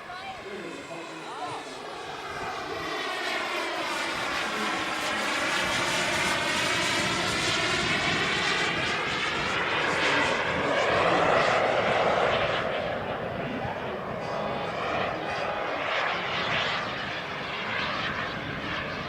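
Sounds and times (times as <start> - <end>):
model jet turbine rushing: 0.0 - 19.0.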